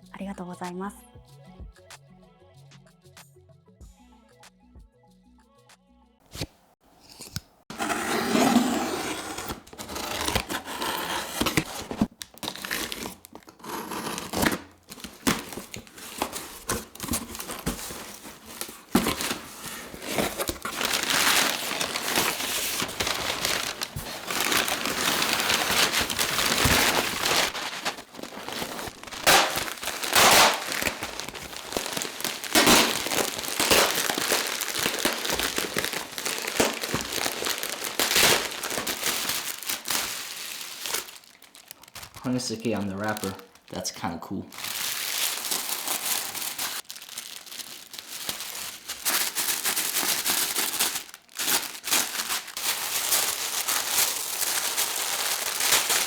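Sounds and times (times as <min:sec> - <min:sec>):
packing paper crinkling: 0:07.1 - 0:56.0.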